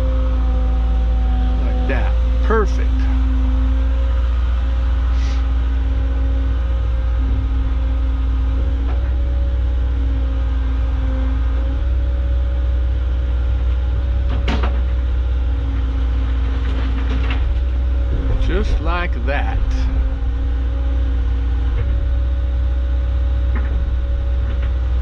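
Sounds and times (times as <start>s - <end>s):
excavator diesel engine running: 0.0s - 25.0s
hydraulic whine: 0.0s - 25.0s.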